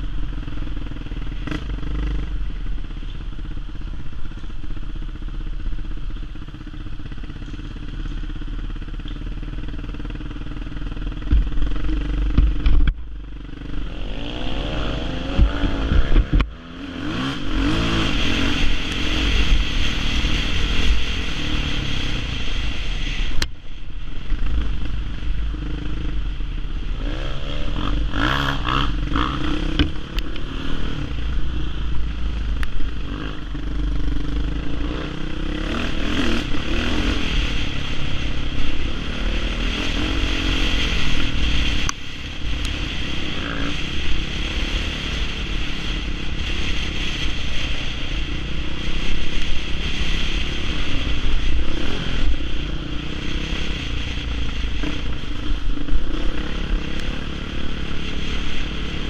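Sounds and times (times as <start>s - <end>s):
deep rumble: 0.0s - 59.0s
dirt bike engine revving: 7.1s - 23.4s, 24.4s - 59.0s.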